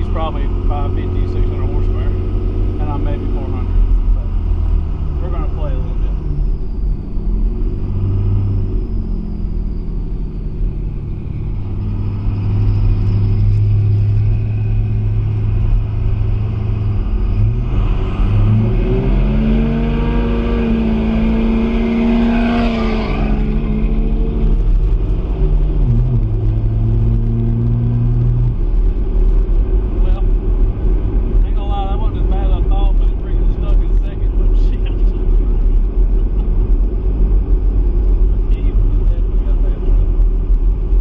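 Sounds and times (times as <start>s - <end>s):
truck engine accelerating: 0.0s - 41.0s.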